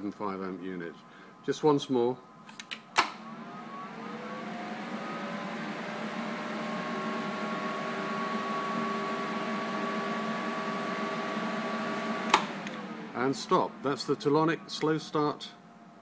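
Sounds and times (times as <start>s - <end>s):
power supply whirring and whining: 3.0s - 16.0s.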